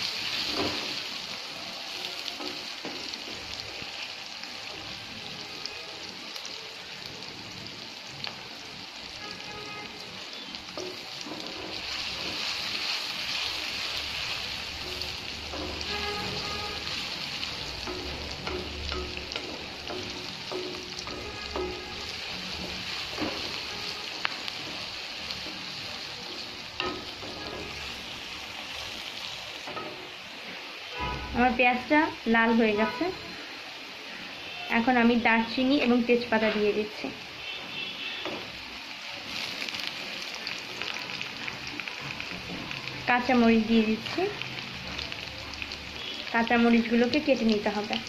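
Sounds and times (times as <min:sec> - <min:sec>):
onions sizzling in oil: 0:00.0 - 0:48.0.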